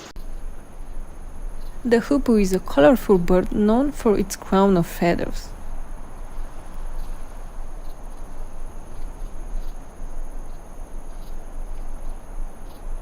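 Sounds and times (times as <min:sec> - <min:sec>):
insect chirring: 0:00.0 - 0:13.0
low background rumble: 0:00.0 - 0:13.0.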